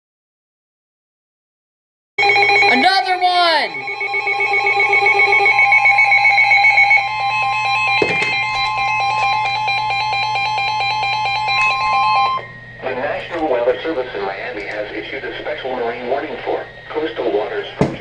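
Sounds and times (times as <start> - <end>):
rapid pulsing alarm beeps: 2.2 - 14.1, 15.3 - 18.0
steady warning alarm tone: 2.2 - 18.0.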